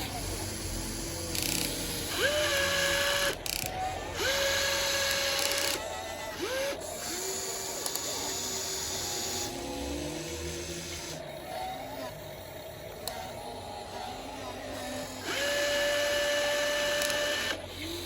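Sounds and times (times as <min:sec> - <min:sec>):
toy excavator electric motors whining: 0:00.0 - 0:18.0.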